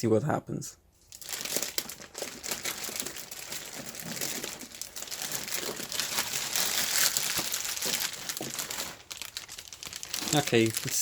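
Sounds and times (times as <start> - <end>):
packaging crinkling and rustling: 1.0 - 11.0.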